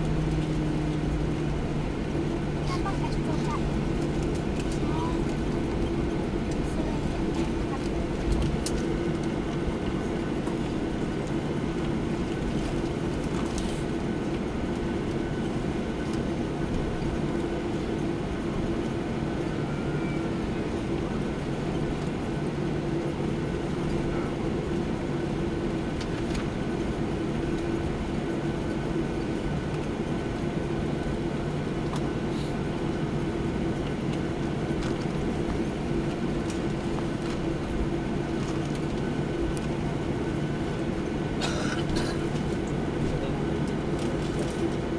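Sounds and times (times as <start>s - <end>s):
aircraft cabin engine hum: 0.0s - 44.9s.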